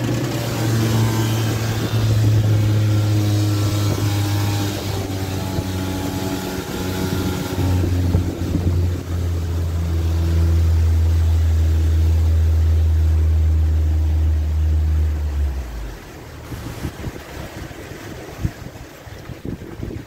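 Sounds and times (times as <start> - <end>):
motorboat engine humming: 0.0 - 20.0.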